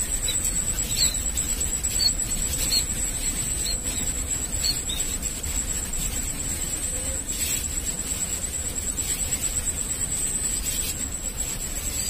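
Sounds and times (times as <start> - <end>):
insect high-pitched trill: 0.0 - 12.0.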